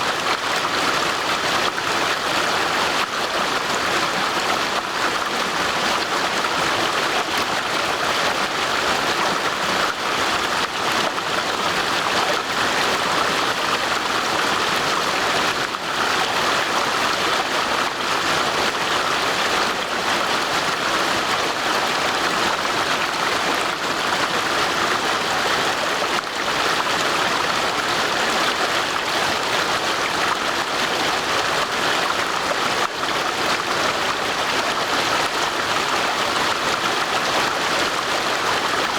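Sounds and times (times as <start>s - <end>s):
stream water rushing over stones: 0.0s - 38.9s.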